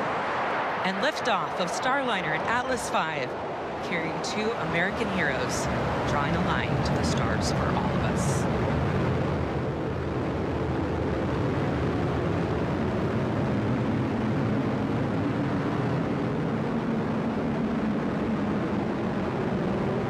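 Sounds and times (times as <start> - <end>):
rocket engine roar: 0.0 - 20.0.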